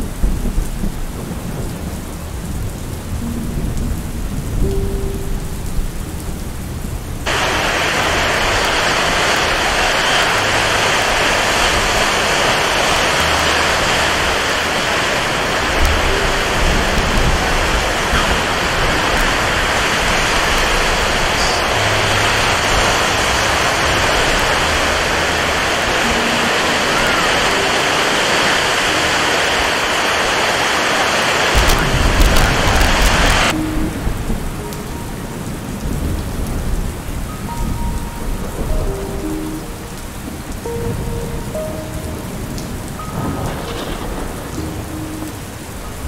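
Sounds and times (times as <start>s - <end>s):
low rumbles: 0.0s - 37.3s
heavy rain in a forest: 0.0s - 46.0s.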